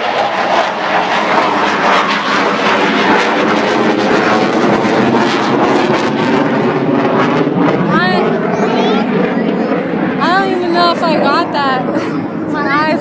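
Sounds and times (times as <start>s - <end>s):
aircraft engine roaring past: 0.0s - 13.0s.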